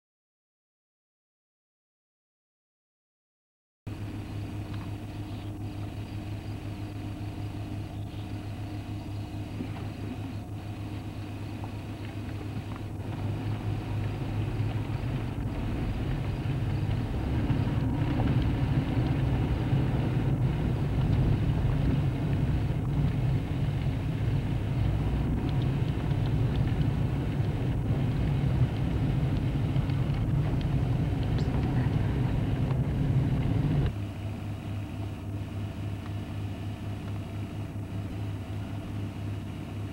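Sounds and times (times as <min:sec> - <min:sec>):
vehicle engine and road rumble: 0:03.9 - 0:39.9.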